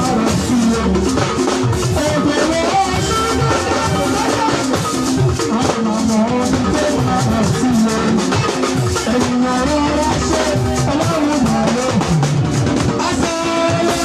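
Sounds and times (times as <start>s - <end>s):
drums and shakers beat: 0.0s - 14.0s
gospel band music: 0.0s - 14.0s.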